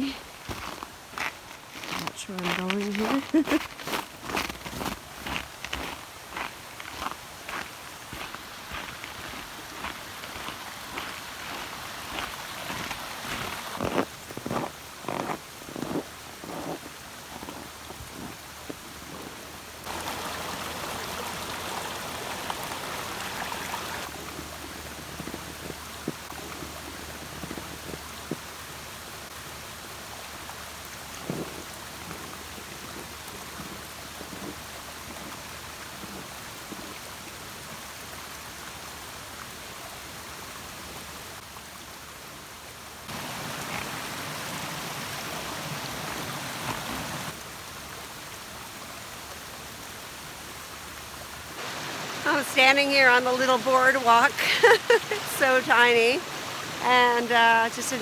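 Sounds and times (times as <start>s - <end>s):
waterfall rushing water: 6.0s - 58.0s.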